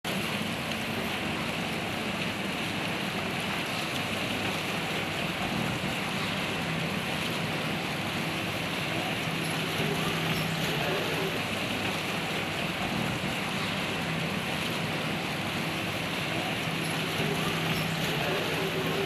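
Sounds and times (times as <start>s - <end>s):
sea rushing: 0.4s - 19.0s.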